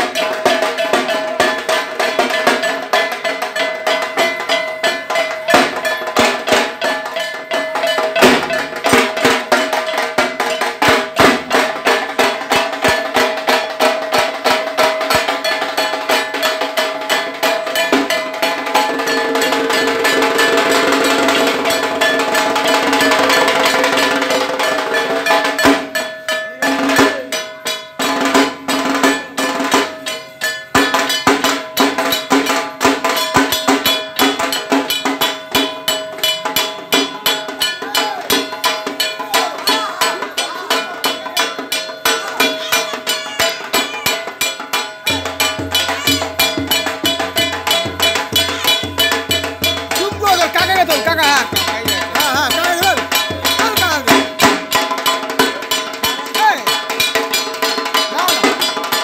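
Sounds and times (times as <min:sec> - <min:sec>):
drums beaten with sticks: 0:00.0 - 0:59.0.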